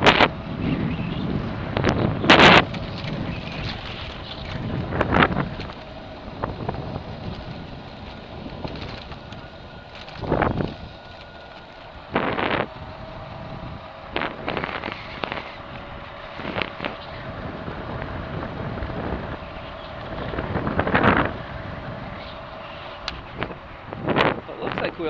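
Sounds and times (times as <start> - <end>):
faint steady whine: 0.0 - 25.0
wind rushing over microphone: 0.0 - 25.0.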